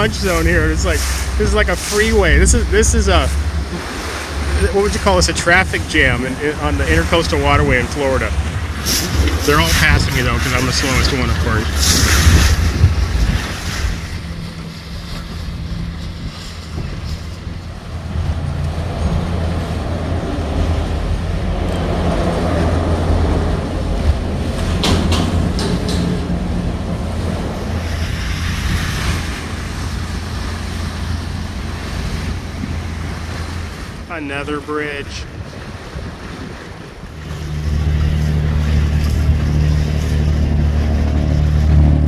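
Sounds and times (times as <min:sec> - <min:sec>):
boat engine running: 0:00.0 - 0:42.0
water rushing past hull: 0:00.0 - 0:42.0
wind buffeting microphone: 0:00.0 - 0:42.0.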